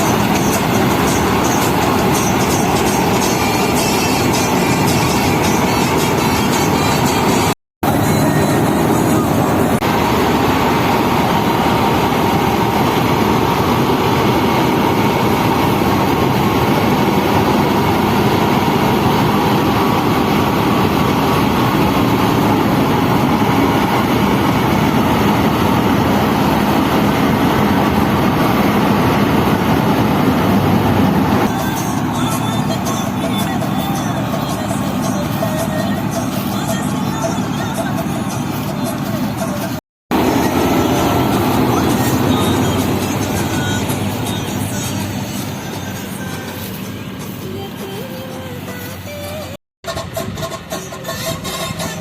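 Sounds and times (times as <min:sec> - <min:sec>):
paddy-cutting machine running: 0:00.0 - 0:52.0.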